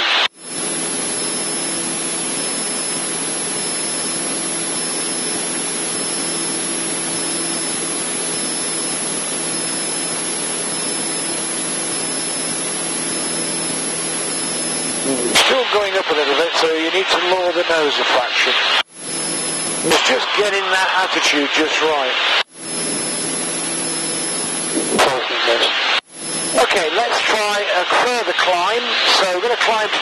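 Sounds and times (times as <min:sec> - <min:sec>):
aircraft engine and propeller droning: 0:00.3 - 0:18.0, 0:18.6 - 0:25.2, 0:25.8 - 0:29.7.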